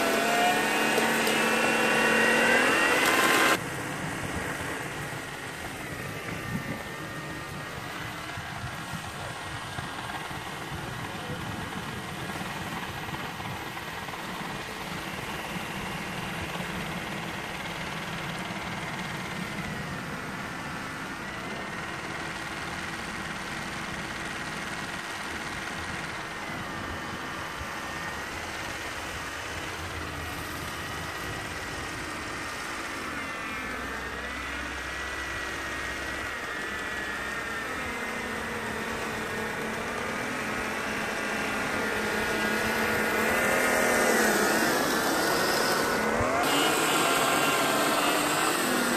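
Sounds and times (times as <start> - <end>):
small motor whining: 0.0 - 48.9.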